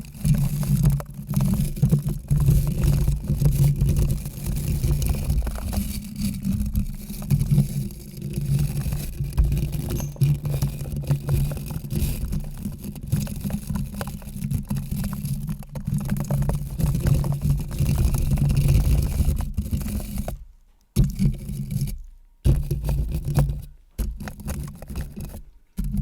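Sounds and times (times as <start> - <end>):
close scratching and rubbing: 0.0 - 20.4, 21.0 - 26.0.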